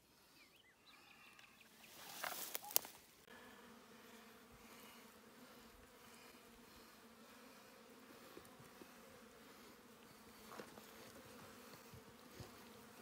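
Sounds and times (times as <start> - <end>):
low insect buzz: 0.0 - 13.0.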